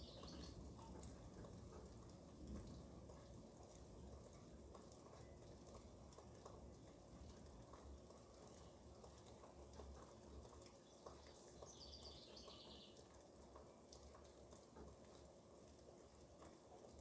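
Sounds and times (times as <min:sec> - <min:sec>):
faint steady rain: 0:00.0 - 0:17.0
light drip ticks: 0:00.0 - 0:17.0.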